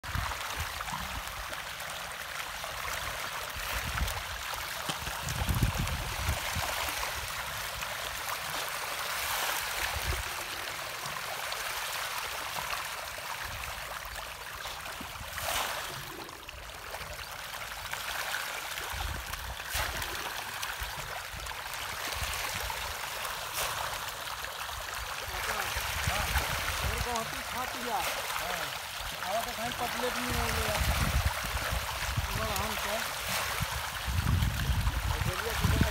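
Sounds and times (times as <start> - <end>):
flowing water rushing: 0.0 - 35.9.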